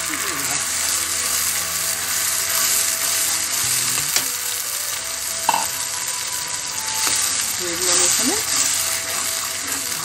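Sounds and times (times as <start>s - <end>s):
paste sizzling in oil: 0.0s - 10.0s.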